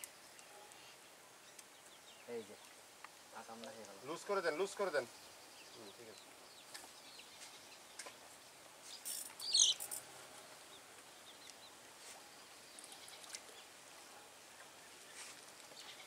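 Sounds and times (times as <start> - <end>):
bird chirping: 0.0 - 16.0
outdoor background noise: 0.0 - 16.0.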